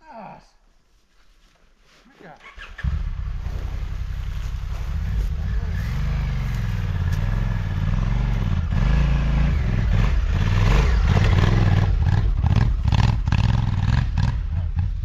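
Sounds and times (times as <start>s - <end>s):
motorcycle engine revving: 2.4s - 15.0s.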